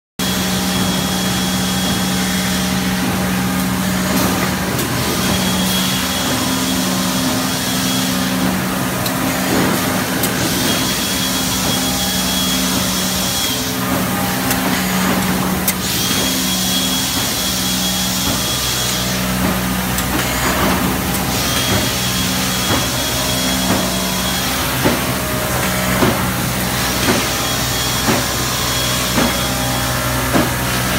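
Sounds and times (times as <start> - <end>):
machine air hiss: 0.2 - 30.9
machine high tone: 0.2 - 30.9
machinery low hum: 0.2 - 30.9.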